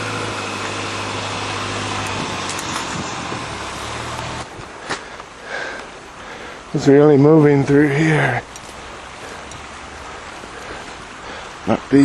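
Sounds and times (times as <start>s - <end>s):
rushing outdoor noise: 0.0s - 12.0s
vehicle engine humming: 0.0s - 12.0s.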